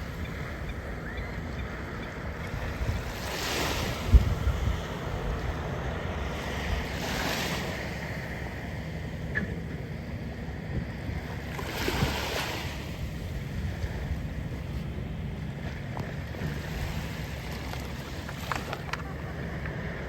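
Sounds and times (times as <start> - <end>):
wind on microphone: 0.0 - 8.6, 10.6 - 20.0
surf washing ashore: 0.0 - 20.0.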